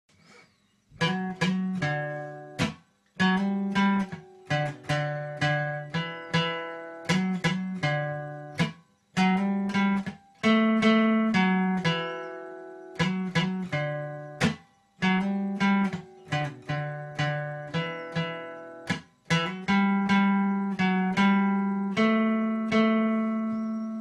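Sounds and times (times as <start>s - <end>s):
strummed string instrument chords: 1.0s - 24.0s.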